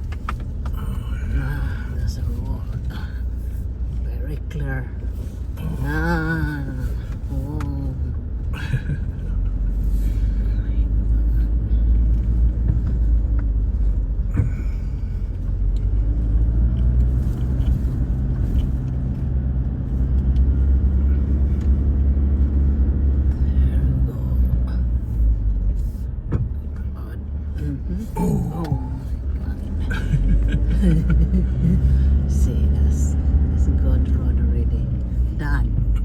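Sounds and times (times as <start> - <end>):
vehicle engine rumbling: 0.0 - 36.0.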